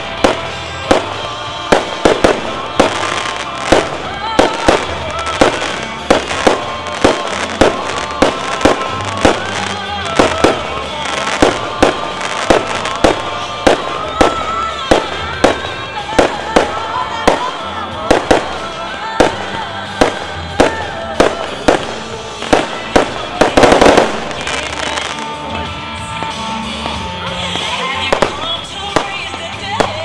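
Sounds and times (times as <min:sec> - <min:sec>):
music: 0:00.0 - 0:30.0.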